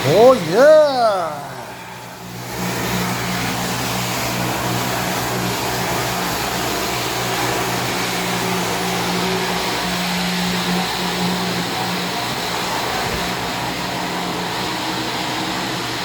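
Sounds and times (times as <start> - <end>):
floor-cleaning machine motor hum: 0.0 - 16.0
loud whirring hiss: 0.0 - 16.0.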